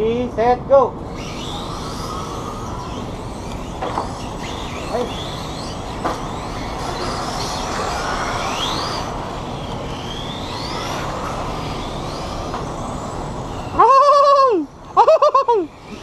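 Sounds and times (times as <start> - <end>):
steady rushing noise: 0.0 - 16.0
rc car motors whining: 0.9 - 16.0.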